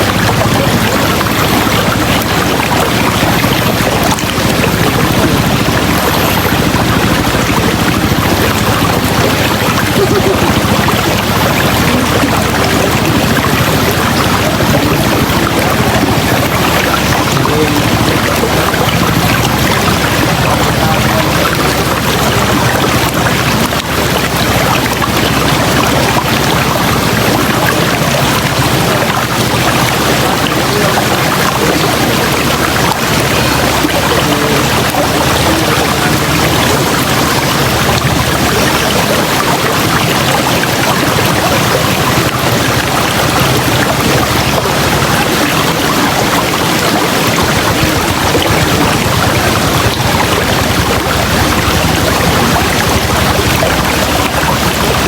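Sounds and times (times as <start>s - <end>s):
river water rushing over rocks: 0.0s - 55.0s.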